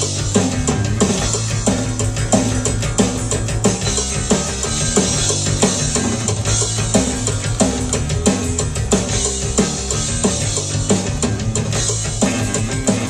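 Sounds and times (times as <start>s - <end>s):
electric bass guitar: 0.0s - 13.0s
punk rock music: 0.0s - 13.0s
steady drum beat: 0.0s - 13.0s.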